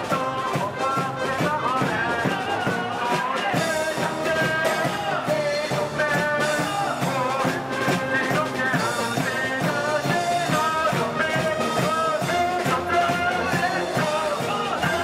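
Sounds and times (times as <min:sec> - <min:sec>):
people singing: 0:00.0 - 0:15.0
steady drum beat: 0:00.0 - 0:15.0.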